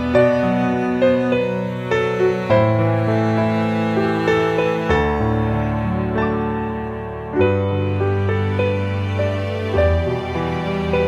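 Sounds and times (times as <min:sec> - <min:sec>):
slow music with held chords: 0:00.0 - 0:11.0.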